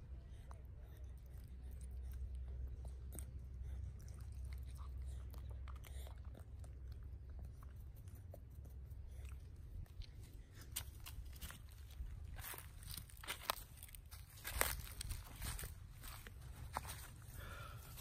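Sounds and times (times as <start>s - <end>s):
monkey chewing fruit: 0.0s - 18.0s.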